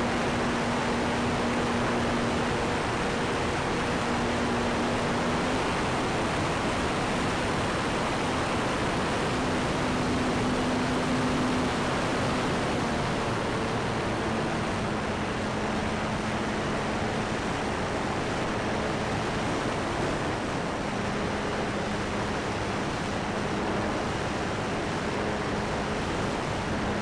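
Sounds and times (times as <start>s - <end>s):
faint low propeller hum: 0.0s - 27.0s.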